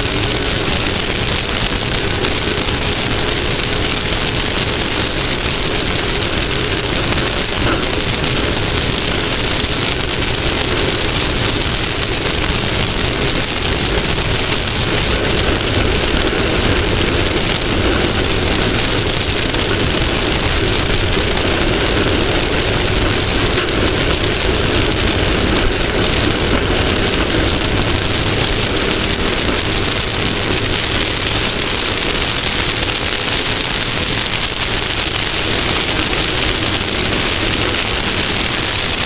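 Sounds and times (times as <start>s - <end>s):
terrain noise: 0.0s - 39.0s
vehicle engine at speed: 0.0s - 39.0s.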